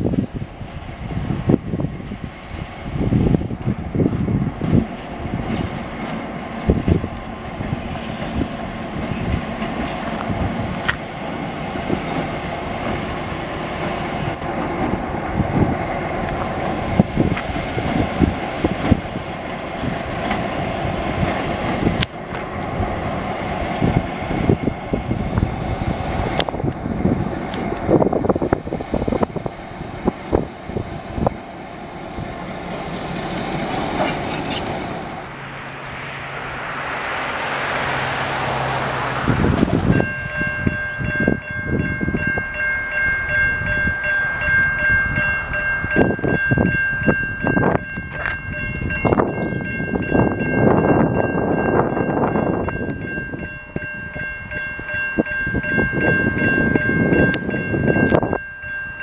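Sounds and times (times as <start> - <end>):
locomotive engine running: 0.0 - 59.0.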